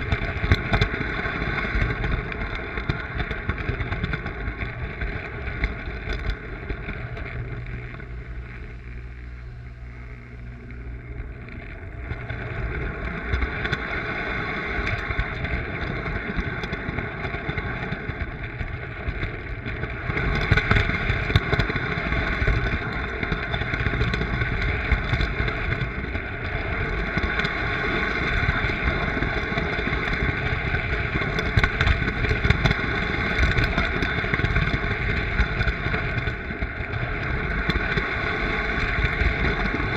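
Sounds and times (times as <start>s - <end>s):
toy train motor hum: 0.0s - 39.9s
wheel rumble: 0.0s - 39.9s.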